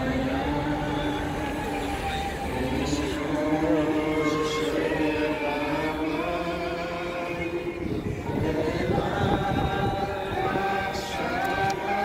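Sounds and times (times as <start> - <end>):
group of people singing: 0.0 - 12.0
traffic noise: 0.0 - 12.0.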